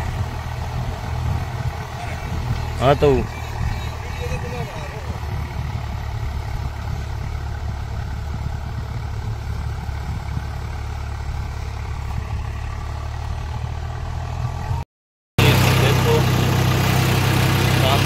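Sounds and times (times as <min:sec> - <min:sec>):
tractor diesel engine running: 0:00.0 - 0:14.8, 0:15.4 - 0:18.0.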